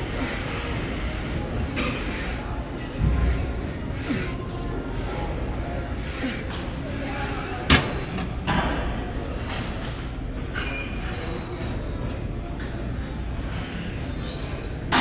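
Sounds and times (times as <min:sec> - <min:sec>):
gym background noise: 0:00.0 - 0:15.0.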